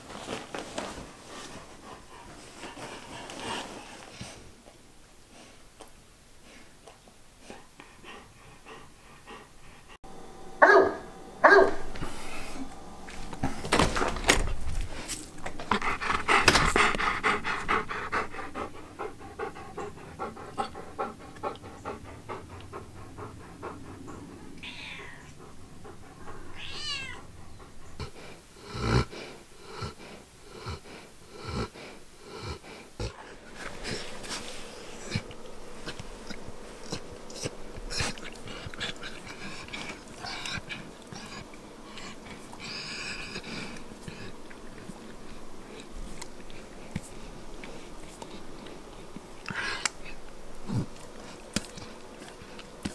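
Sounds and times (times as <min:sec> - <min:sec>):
dog panting and snuffling: 0:00.0 - 0:10.0, 0:11.6 - 0:24.6, 0:25.2 - 0:52.9.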